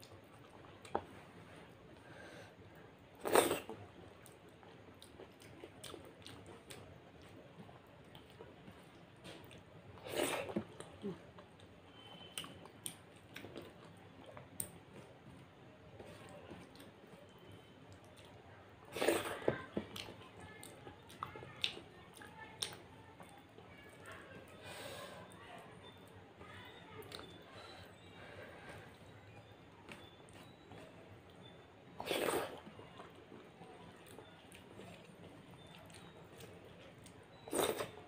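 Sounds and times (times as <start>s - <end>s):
close-up chewing with mouth clicks: 3.2s - 23.7s, 26.9s - 38.0s.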